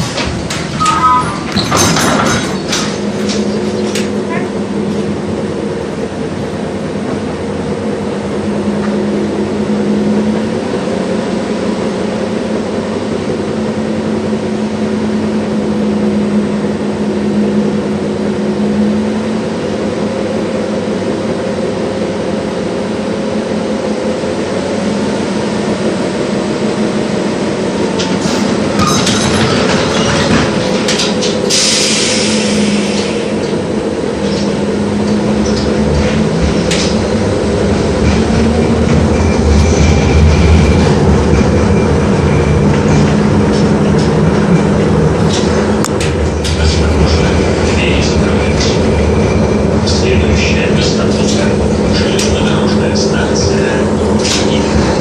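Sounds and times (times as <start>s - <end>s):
tram motor hum: 0.0s - 55.0s
wheels rumbling on rails: 0.0s - 55.0s.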